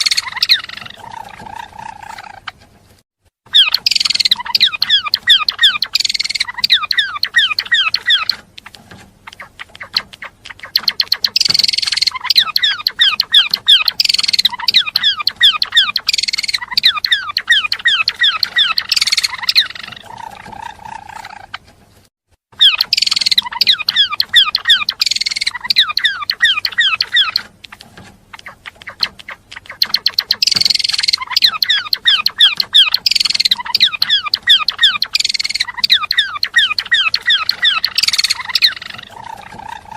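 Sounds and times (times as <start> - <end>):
songbird chattering song: 0.0 - 2.5, 3.5 - 21.6, 22.6 - 39.9.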